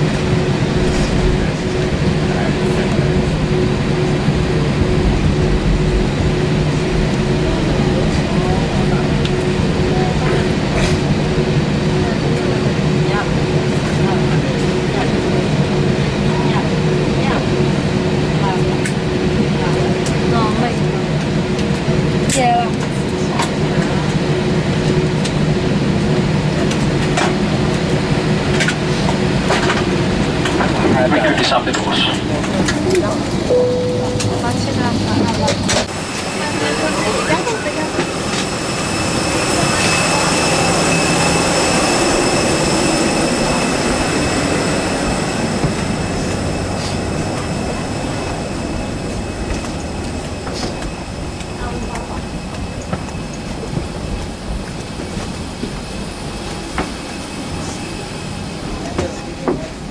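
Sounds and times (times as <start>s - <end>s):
aircraft cabin rumble and hum: 0.0s - 59.9s.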